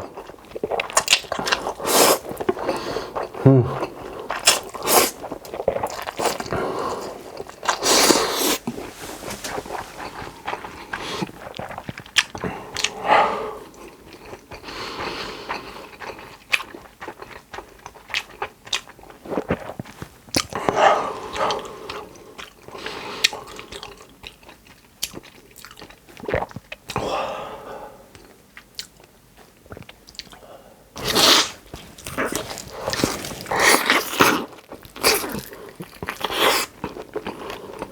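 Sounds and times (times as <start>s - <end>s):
person chewing: 0.0s - 13.0s, 15.1s - 27.0s, 31.0s - 37.9s.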